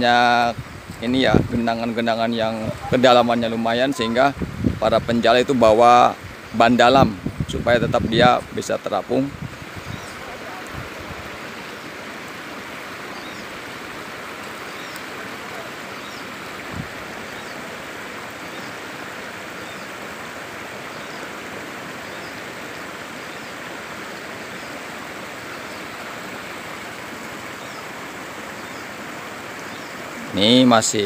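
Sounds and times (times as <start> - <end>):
river water running over stones: 0.0 - 31.0.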